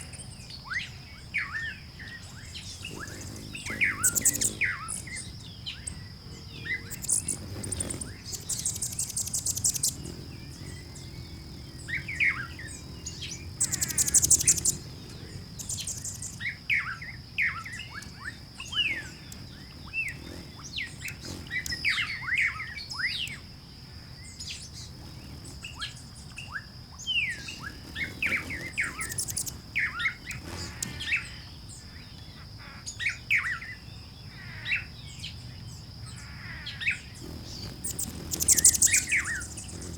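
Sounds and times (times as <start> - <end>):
birds chirping and calling: 0.0 - 23.3, 25.0 - 33.7, 34.4 - 39.9.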